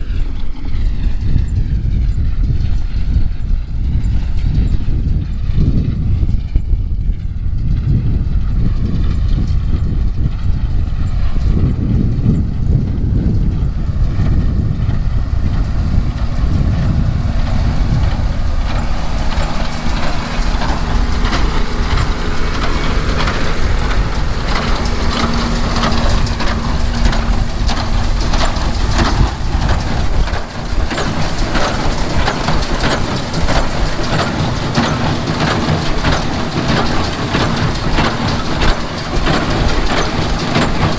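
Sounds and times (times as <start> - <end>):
baler mechanical clatter: 0.0 - 40.9
tractor engine running: 0.0 - 40.9.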